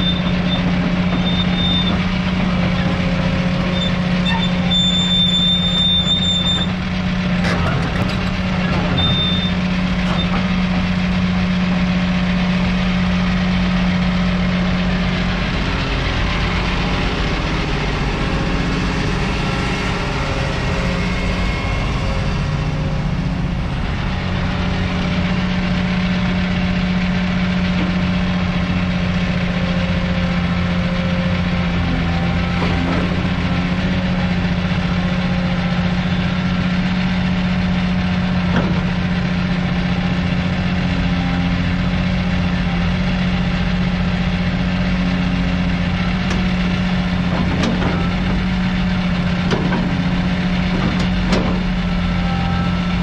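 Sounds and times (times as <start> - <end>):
excavator diesel engine: 0.0 - 53.0.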